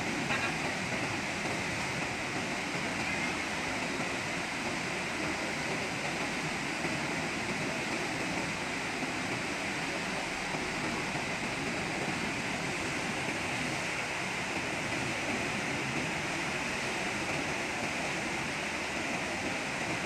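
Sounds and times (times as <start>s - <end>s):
rushing floodwater: 0.0s - 20.0s.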